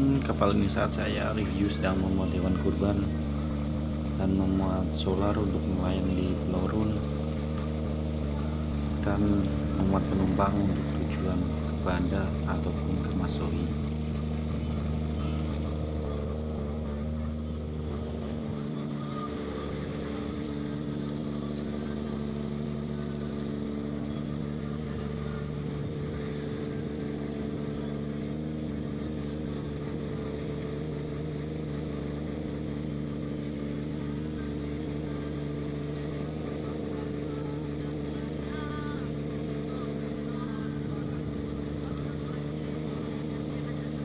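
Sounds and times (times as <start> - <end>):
ship engine humming: 0.0 - 44.0.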